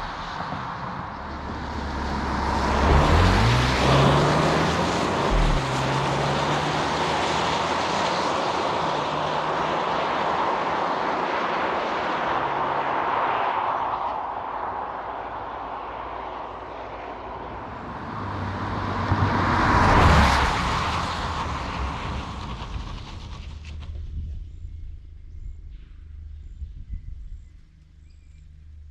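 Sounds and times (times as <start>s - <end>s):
car engine driving: 0.0s - 24.1s
road noise: 0.0s - 28.9s.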